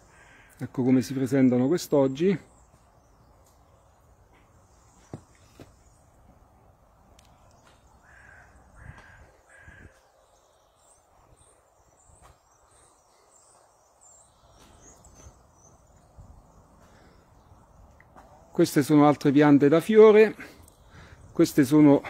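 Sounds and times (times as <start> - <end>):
faint bird calls: 0.0 - 6.4, 7.1 - 19.0
small birds chirping: 0.0 - 22.0.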